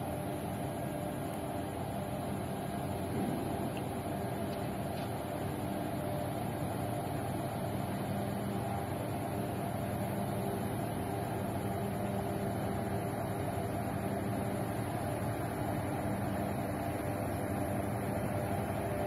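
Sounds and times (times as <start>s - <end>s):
ship engines humming: 0.0s - 19.0s.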